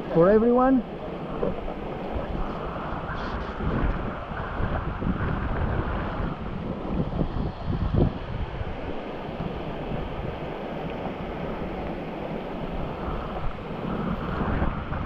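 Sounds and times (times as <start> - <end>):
river water rushing: 0.0 - 15.0
wind noise on microphone: 0.0 - 15.0.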